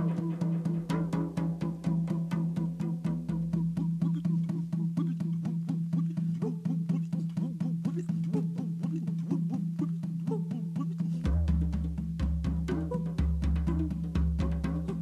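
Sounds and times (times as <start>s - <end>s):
quick percussive beat: 0.0s - 15.0s.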